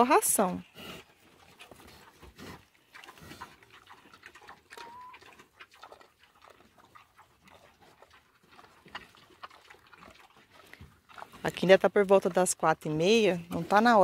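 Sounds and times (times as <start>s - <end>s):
pig crunching and chewing: 0.0s - 14.0s.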